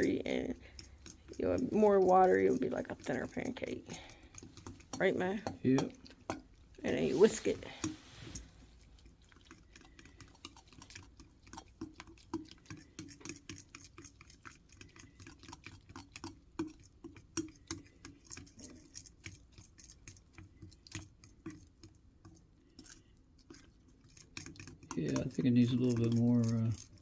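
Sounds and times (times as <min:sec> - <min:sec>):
whisk tapping against bowl: 0:00.0 - 0:06.6, 0:09.4 - 0:22.9, 0:23.5 - 0:27.0.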